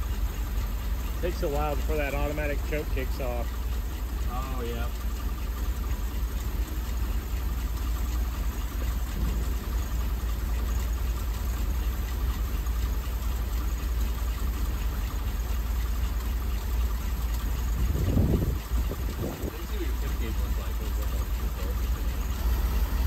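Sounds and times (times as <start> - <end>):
engine idling rumble: 0.0 - 23.0.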